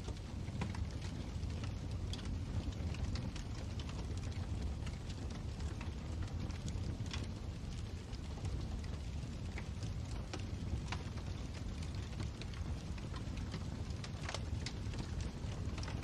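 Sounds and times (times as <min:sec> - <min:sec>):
wood fire rumbling and crackling: 0:00.0 - 0:16.0.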